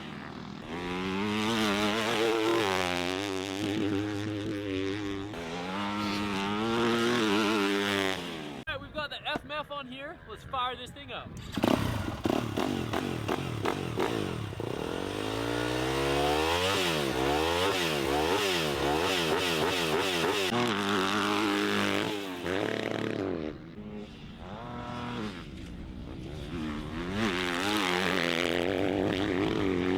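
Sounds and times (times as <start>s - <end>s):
motorcycle engine revving: 0.0s - 8.7s, 11.4s - 29.9s.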